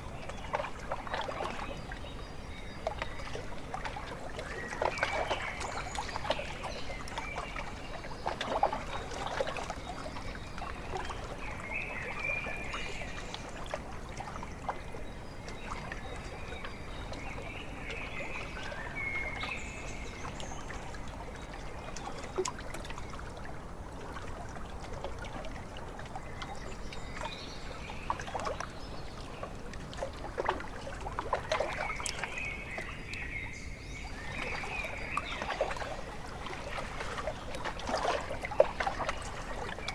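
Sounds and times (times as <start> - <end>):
little splashes: 0.0 - 39.9
small waves lapping at shore: 0.0 - 39.9.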